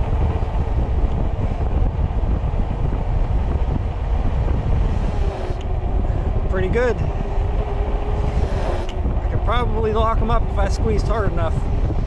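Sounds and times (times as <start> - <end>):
tires humming on pavement: 0.0 - 12.0
wind buffeting the microphone: 0.0 - 12.0.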